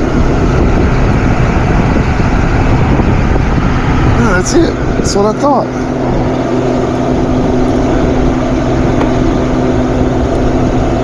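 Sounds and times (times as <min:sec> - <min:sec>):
machine drone: 0:00.0 - 0:11.0.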